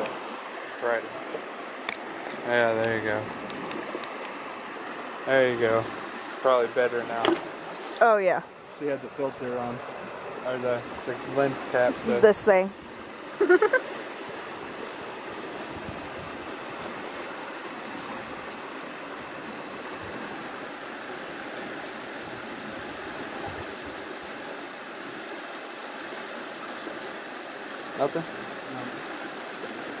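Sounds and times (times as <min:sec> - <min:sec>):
water rushing: 0:00.0 - 0:30.0.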